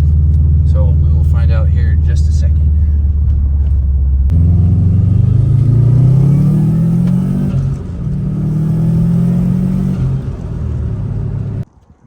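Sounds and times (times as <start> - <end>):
car engine accelerating hard: 0.0 - 11.6.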